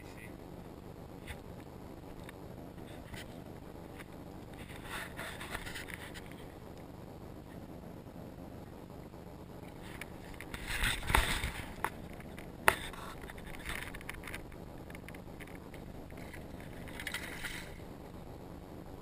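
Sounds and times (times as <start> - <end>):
steady background rush: 0.0 - 19.0.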